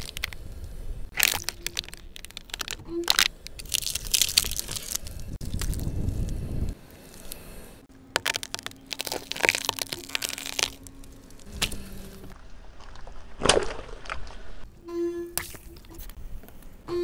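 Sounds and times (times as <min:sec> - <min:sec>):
objects crunching under car tyre: 0:00.0 - 0:00.5, 0:01.1 - 0:14.7.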